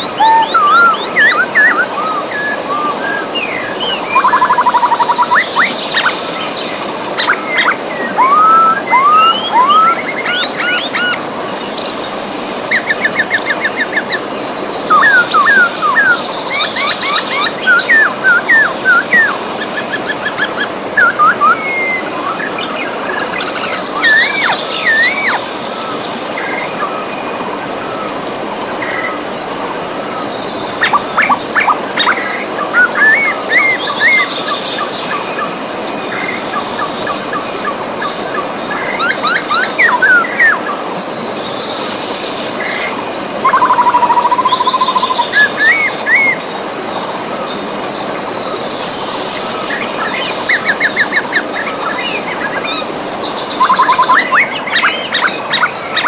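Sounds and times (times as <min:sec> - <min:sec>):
birds singing and calling: 0:00.0 - 0:56.0
river rushing: 0:00.0 - 0:56.0.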